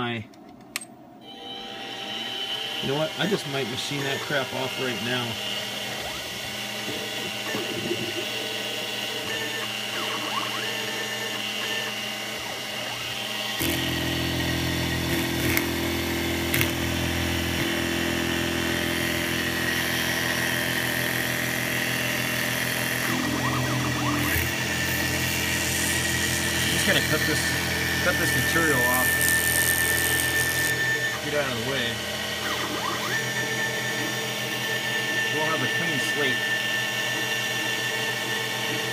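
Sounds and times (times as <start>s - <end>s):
milling machine motor running: 1.8s - 38.9s
end mill cutting with flutter: 3.2s - 38.9s.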